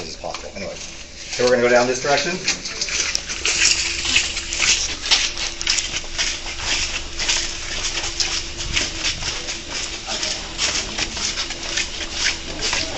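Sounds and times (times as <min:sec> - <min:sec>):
footsteps on concrete: 0:00.0 - 0:12.9
steady low hum: 0:00.0 - 0:12.9.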